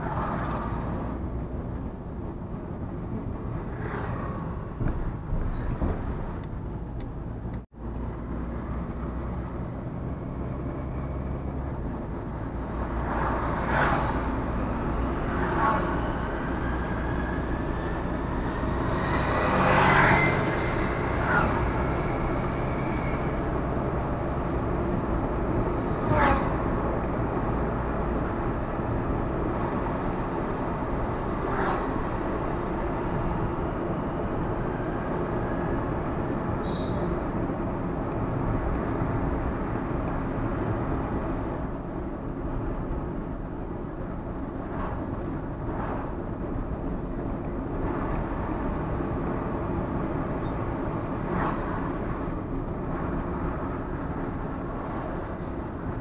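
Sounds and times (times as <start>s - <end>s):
vehicle road noise rumble: 0.0s - 56.0s.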